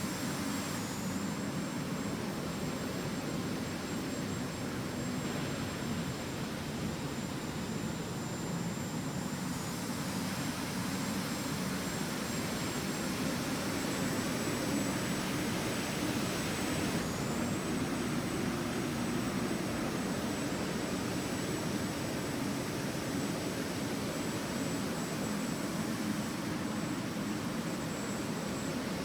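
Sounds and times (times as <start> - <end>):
faint high whine: 0.0 - 29.0
jet engines and airflow rushing: 0.0 - 29.0.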